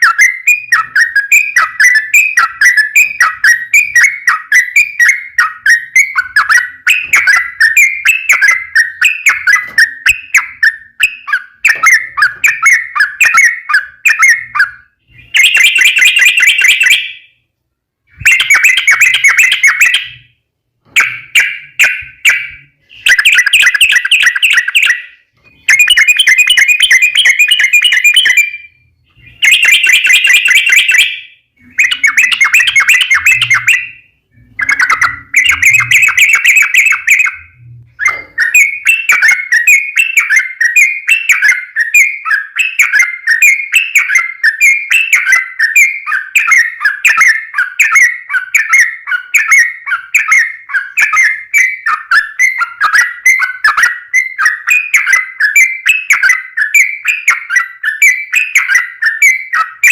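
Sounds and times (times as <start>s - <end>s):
bird chattering song: 0.0s - 17.4s, 18.1s - 59.9s.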